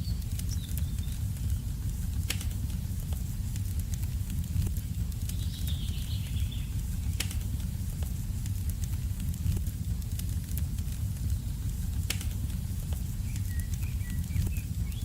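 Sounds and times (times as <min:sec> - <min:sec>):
sharp pops from fire: 0:00.0 - 0:15.0
wood fire crackling: 0:00.0 - 0:15.0.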